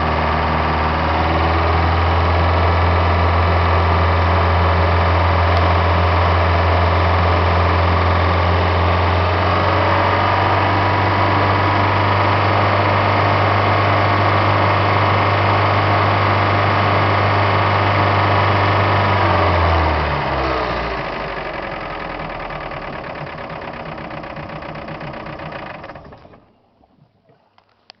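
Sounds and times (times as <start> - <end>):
boat engine idling with knocking: 0.0 - 27.8.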